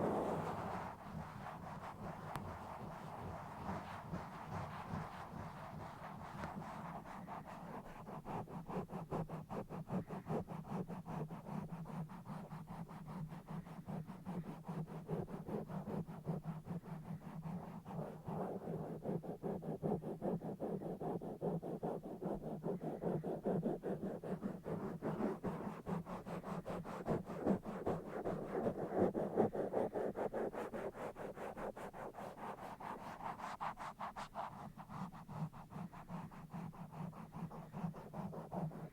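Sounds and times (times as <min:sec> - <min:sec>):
scratching on a microphone: 0:00.0 - 0:38.9.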